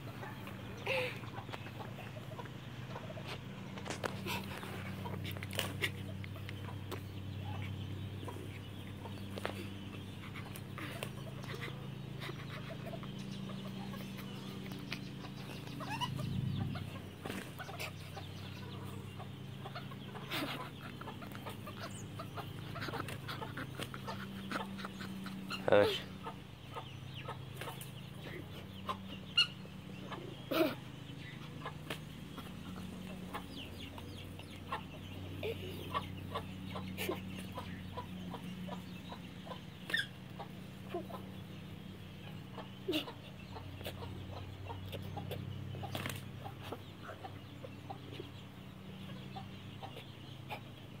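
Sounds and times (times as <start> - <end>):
chickens clucking: 0.0 - 51.0
steady low hum: 0.0 - 51.0.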